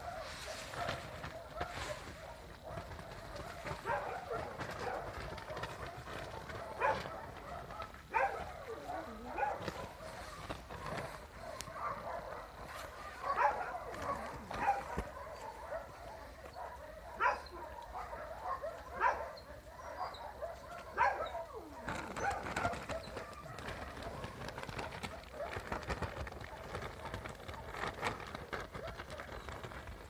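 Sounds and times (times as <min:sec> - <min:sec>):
puppies yapping and barking: 0:01.3 - 0:27.2.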